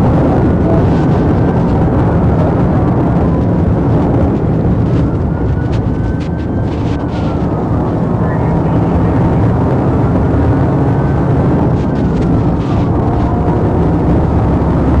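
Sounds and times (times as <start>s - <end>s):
car engine and tyre rumble: 0.0s - 15.0s
faint siren: 0.0s - 15.0s.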